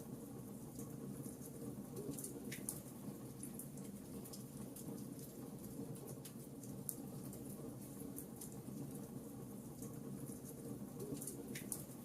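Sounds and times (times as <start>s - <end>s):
wood crackling and popping: 0.8s - 12.0s.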